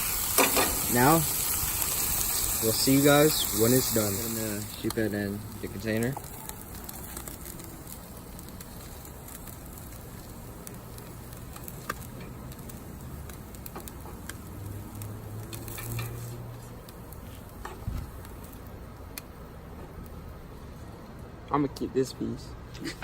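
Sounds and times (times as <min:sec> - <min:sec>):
fish sizzling on a grill: 0:00.0 - 0:20.8.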